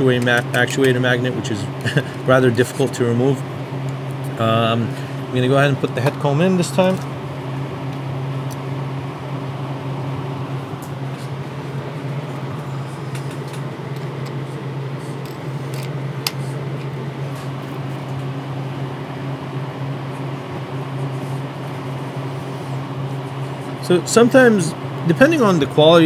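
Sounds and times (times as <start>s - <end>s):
mechanical fan hum: 0.0s - 26.0s.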